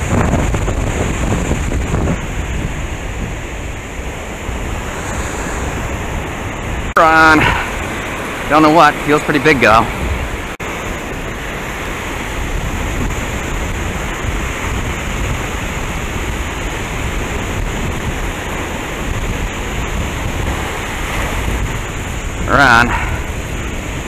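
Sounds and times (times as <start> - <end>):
surf washing up beach: 0.0 - 24.0
wind rumbling on microphone: 0.0 - 24.0.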